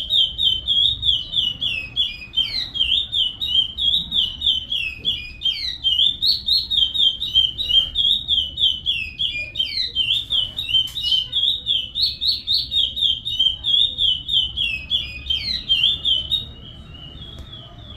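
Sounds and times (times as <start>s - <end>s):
bird singing whistled notes: 0.0s - 17.9s.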